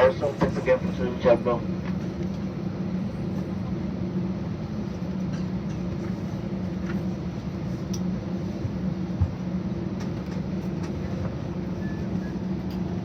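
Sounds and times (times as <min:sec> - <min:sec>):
airplane cabin engine hum: 0:00.0 - 0:13.0.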